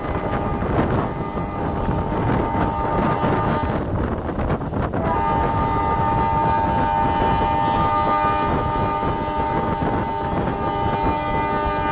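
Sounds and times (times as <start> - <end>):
moving bus rumble and wind: 0.0 - 11.9.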